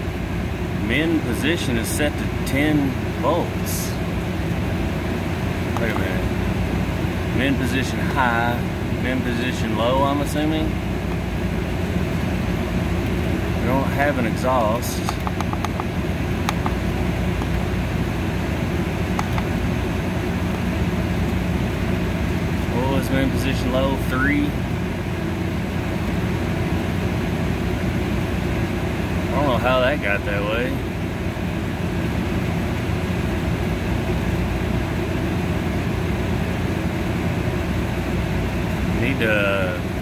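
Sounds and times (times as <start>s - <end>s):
air conditioning unit running: 0.0s - 40.0s.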